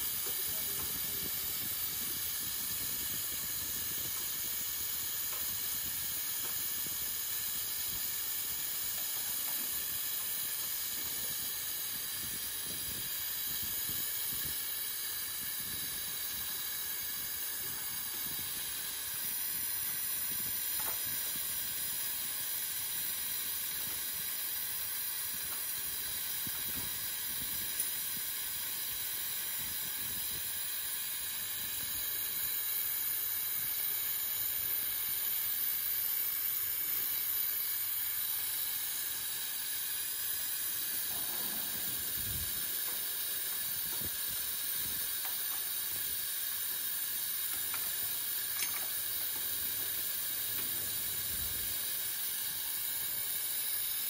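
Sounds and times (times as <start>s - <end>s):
gas hissing: 0.0s - 54.0s.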